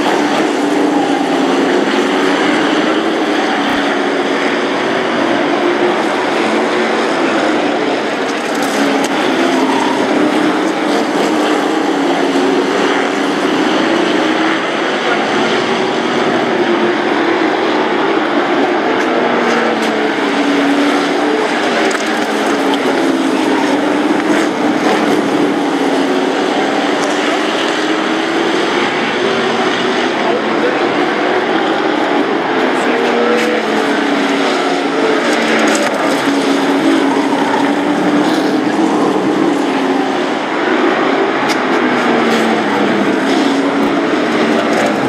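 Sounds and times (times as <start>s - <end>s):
race truck engines droning: 0.0s - 45.0s.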